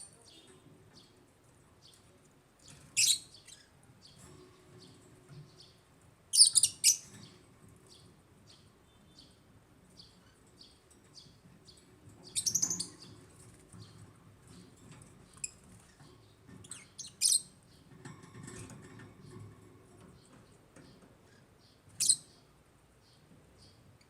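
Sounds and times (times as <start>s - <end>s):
lovebirds chirping: 0.0s - 17.9s, 20.0s - 24.0s.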